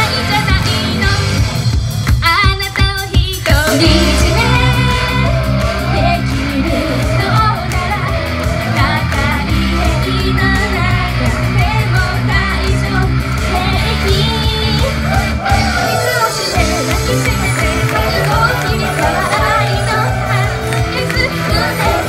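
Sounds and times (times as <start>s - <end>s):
female vocals singing pop: 0.0s - 1.5s, 2.1s - 22.0s
upbeat backing track: 0.0s - 22.0s.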